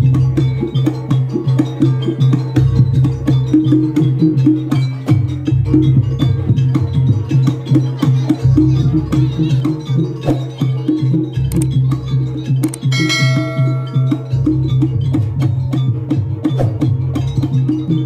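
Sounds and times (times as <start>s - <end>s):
gamelan music: 0.0s - 18.0s.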